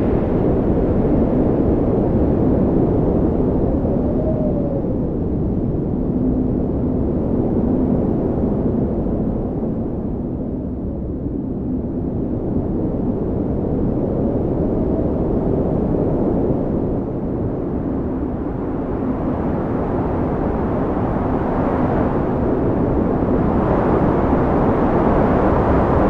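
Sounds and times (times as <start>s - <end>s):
strong wind blowing: 0.0s - 26.0s.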